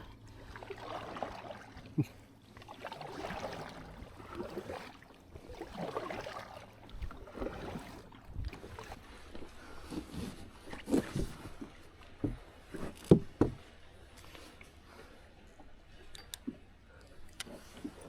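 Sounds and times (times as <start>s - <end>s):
water sloshing around a kayak: 0.0s - 18.0s.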